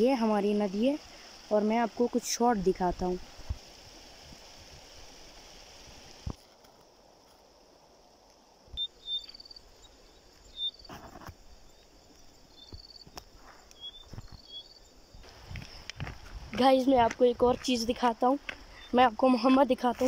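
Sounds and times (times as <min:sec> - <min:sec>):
rustling grass: 0:03.0 - 0:20.0.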